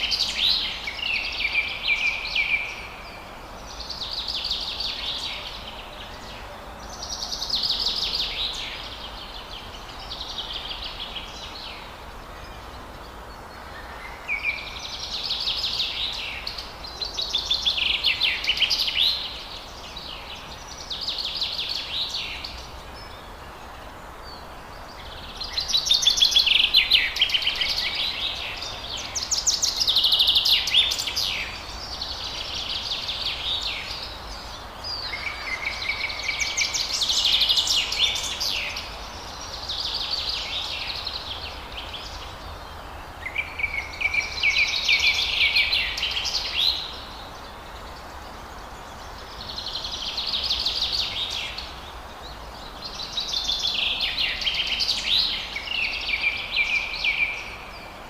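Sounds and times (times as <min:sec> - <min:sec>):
songbird singing: 0:00.0 - 0:58.0
steady low hiss: 0:00.0 - 0:58.0.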